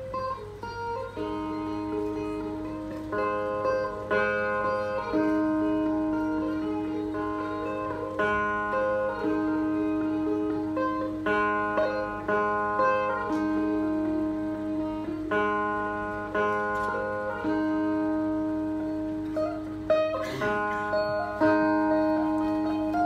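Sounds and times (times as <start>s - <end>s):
plucked lute melody with drone: 0.0s - 23.0s.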